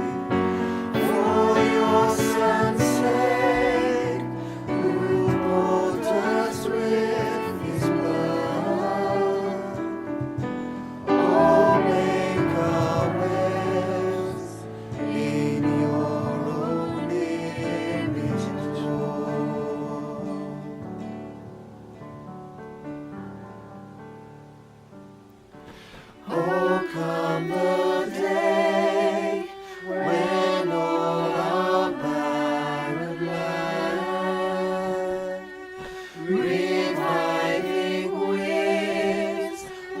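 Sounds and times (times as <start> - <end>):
voices singing worship music: 0.0 - 21.6, 25.6 - 40.0
instrumental backing: 0.0 - 40.0.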